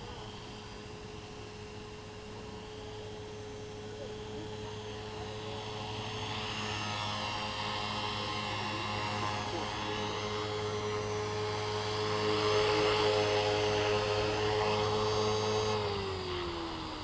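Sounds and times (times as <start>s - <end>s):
rc helicopter motor whining: 0.0s - 17.0s.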